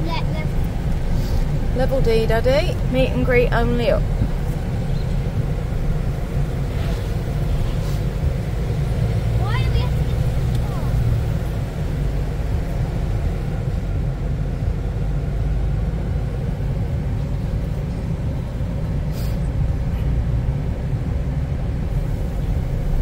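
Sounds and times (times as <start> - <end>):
truck cabin road and engine rumble: 0.0 - 23.0.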